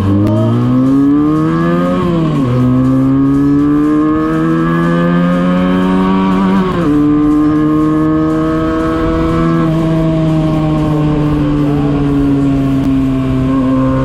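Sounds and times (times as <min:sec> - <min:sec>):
motorcycle engine accelerating hard: 0:00.0 - 0:14.0.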